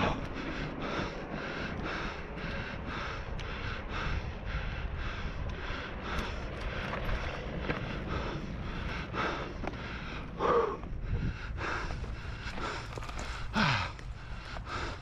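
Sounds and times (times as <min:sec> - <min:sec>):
person panting: 0:00.0 - 0:15.0
wind rumble on microphone: 0:00.0 - 0:15.0.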